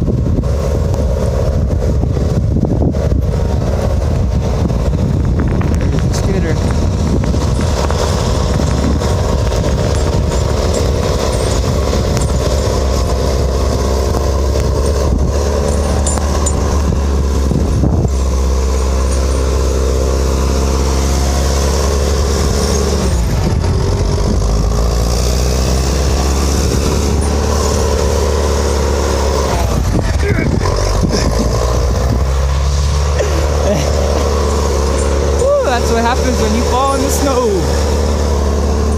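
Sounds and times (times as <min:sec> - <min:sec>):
heavy machinery engine humming: 0:00.0 - 0:38.9.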